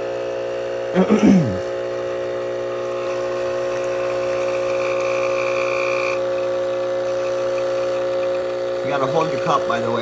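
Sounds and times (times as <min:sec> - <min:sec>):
espresso machine pump humming: 0:00.0 - 0:10.0.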